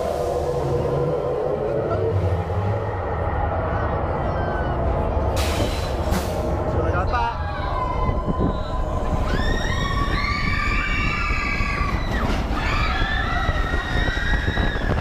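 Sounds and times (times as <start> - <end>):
roller coaster rumbling on track: 0.0 - 15.0.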